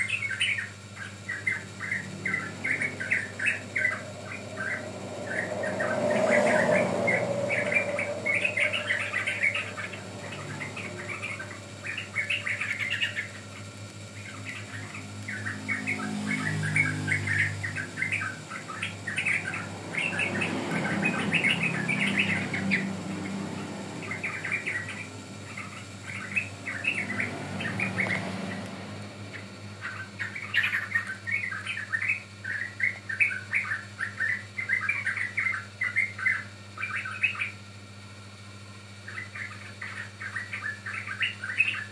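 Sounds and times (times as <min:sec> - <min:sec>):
bird chattering high chirps: 0:00.0 - 0:37.6, 0:39.0 - 0:41.9
low hum: 0:00.0 - 0:41.9.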